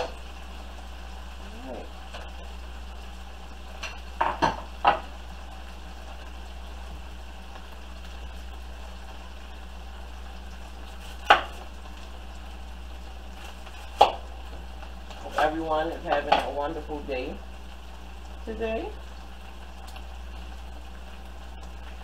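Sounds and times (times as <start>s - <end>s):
beef sizzling in a frying pan: 0.0s - 22.0s.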